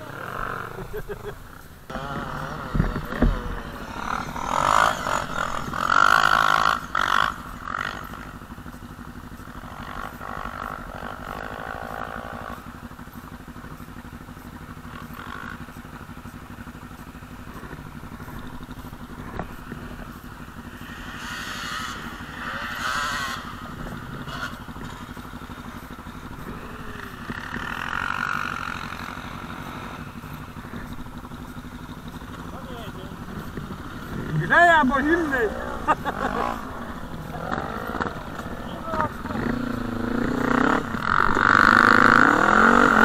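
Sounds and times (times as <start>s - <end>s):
dirt bike engines revving: 0.0s - 43.0s
quad engine idling: 0.0s - 43.0s.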